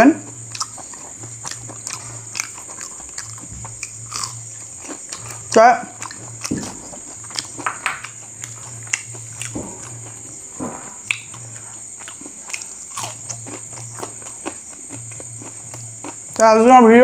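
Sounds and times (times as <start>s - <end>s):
chewing crunchy fried snack: 0.2s - 16.5s.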